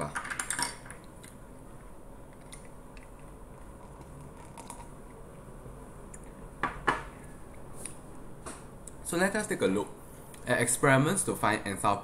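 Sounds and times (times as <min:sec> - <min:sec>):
faint hiss and hum: 0:00.0 - 0:12.0.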